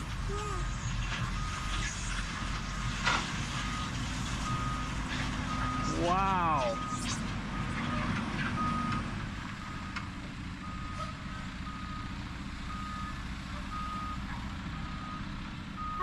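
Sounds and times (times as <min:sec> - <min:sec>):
truck engine rumble: 0:00.0 - 0:16.0
truck back-up alarm beeping: 0:00.4 - 0:16.0.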